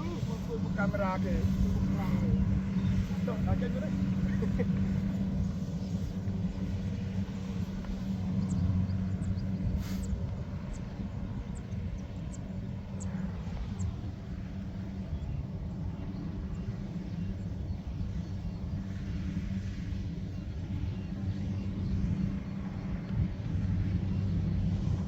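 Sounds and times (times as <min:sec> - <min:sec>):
heavy machine engine droning: 0:00.0 - 0:25.0.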